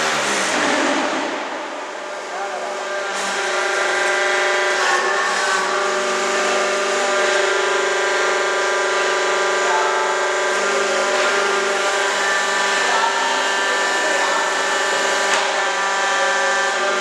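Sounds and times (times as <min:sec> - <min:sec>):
concrete block machine humming: 0:00.0 - 0:17.0.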